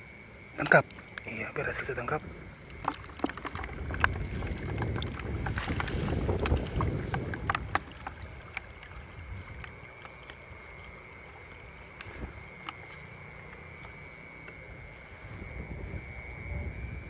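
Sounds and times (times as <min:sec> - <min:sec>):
water sloshing and splashing: 0:00.6 - 0:16.1.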